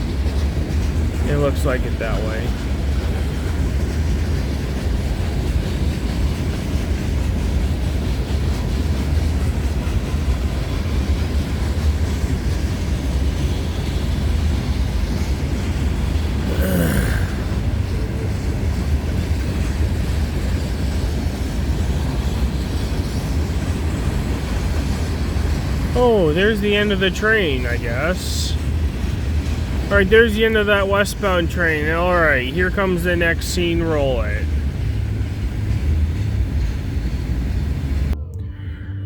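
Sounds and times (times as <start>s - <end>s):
freight train wheels rumbling on rail: 0.0s - 38.2s.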